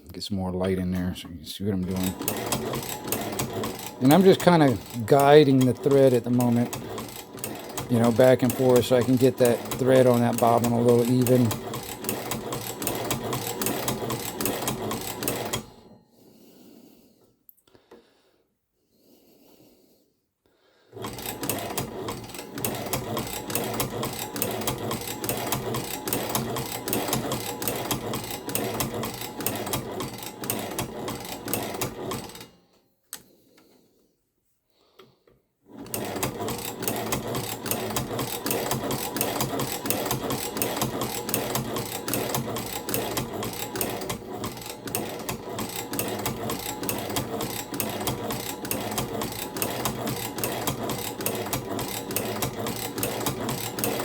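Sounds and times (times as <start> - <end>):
sewing machine clattering: 1.8 - 15.9, 20.9 - 32.6, 35.7 - 54.0.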